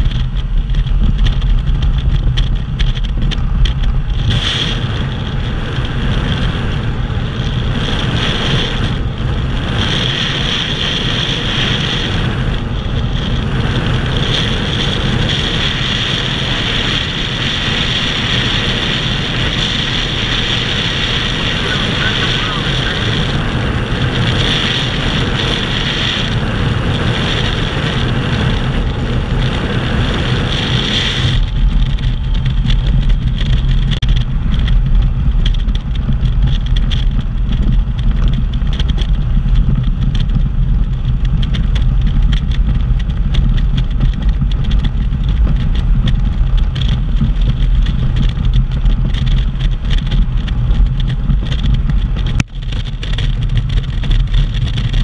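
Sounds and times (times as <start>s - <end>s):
motorcycle engine drone: 0.0s - 55.0s
wind rushing over microphone: 0.0s - 55.0s.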